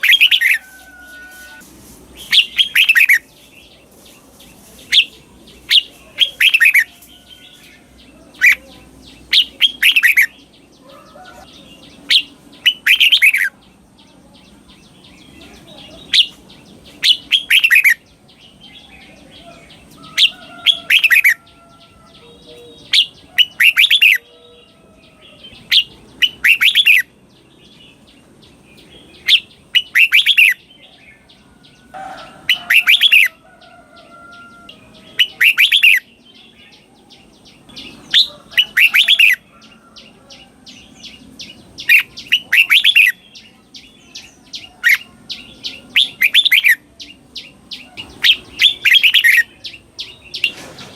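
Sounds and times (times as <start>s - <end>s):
bird chattering: 0.0s - 24.4s, 25.3s - 30.7s, 32.1s - 33.4s, 34.0s - 50.9s.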